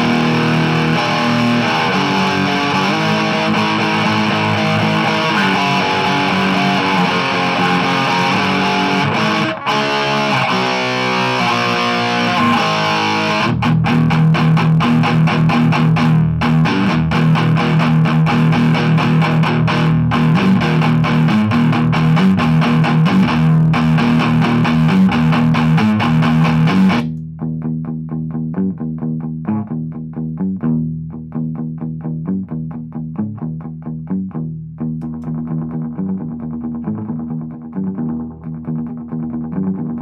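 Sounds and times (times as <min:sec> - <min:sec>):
electric guitar chords and strumming: 0:00.0 - 0:40.0.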